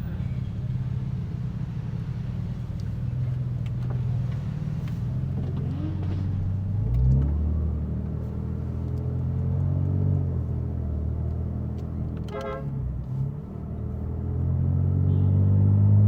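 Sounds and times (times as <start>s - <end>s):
car engine running and revving: 0.0s - 16.0s.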